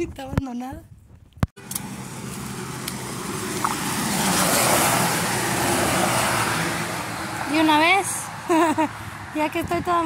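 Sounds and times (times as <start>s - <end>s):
low engine hum: 1.6s - 10.0s.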